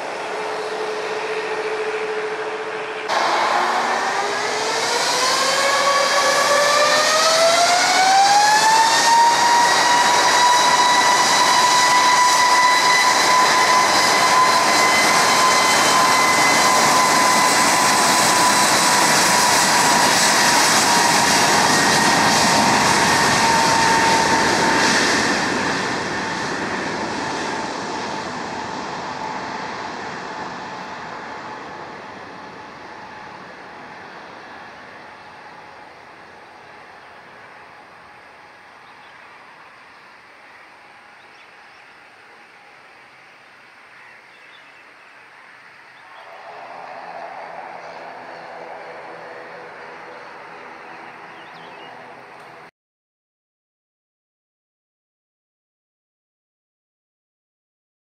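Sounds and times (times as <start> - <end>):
jet engines spooling up: 0.0 - 43.9, 45.2 - 52.7.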